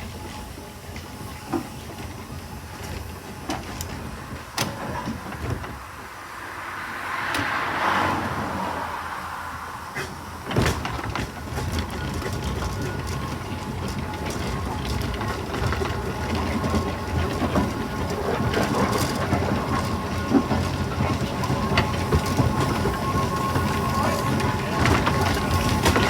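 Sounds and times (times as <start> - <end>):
steam engine clattering rumble: 0.0 - 26.0.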